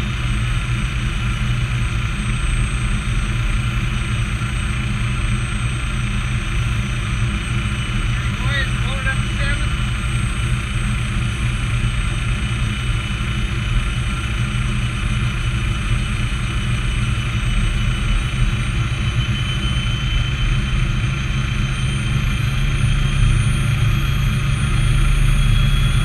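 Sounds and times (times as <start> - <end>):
helicopter engine drone: 0.0 - 26.0
high turbine whine: 0.0 - 26.0.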